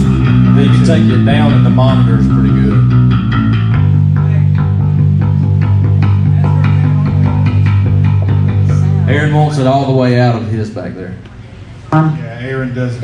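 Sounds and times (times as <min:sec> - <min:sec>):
guitar plucked: 0:00.0 - 0:10.5
electric bass low notes: 0:00.0 - 0:11.2.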